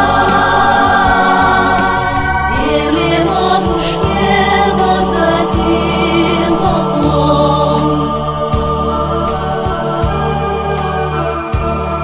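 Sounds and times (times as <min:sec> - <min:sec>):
choir-like voices over chords: 0:00.0 - 0:12.0.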